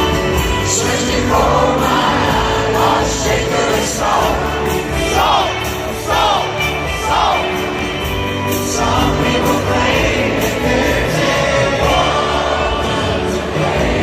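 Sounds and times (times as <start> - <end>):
live band music: 0.0 - 14.0
many voices singing: 0.0 - 14.0.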